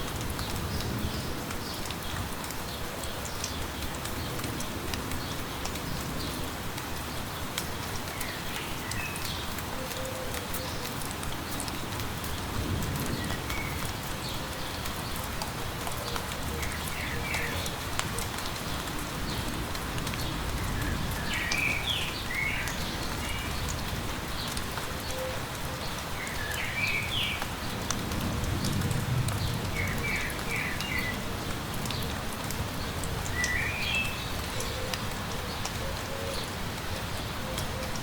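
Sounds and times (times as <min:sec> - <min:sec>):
light rain pattering: 0:00.0 - 0:38.0.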